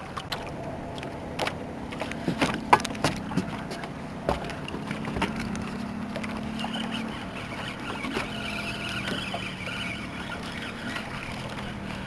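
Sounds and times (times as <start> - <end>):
boat motor humming: 0.0 - 12.0
clicks and knocks on boat: 0.1 - 12.0
higher whir: 0.3 - 12.0.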